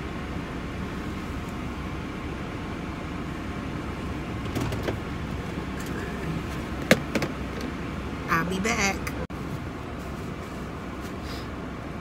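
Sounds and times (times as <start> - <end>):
truck engine low hum: 0.0 - 12.0.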